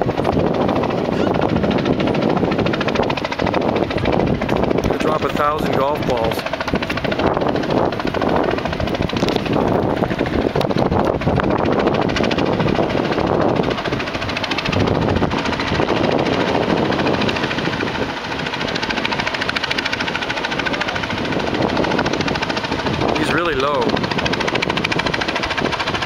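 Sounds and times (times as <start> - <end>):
helicopter engine noise: 0.0 - 26.0
helicopter rotor blades beating: 0.0 - 26.0.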